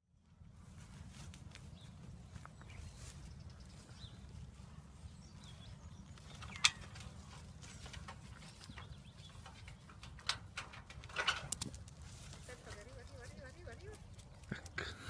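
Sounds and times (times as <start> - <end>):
steady low rumble: 0.2 - 15.0.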